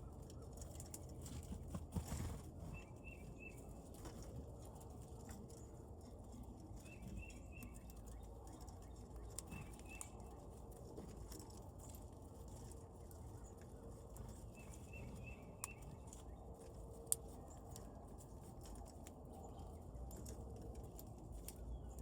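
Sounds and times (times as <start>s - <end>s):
birds chirping: 0.0s - 17.9s
low outdoor rumble: 0.0s - 22.0s.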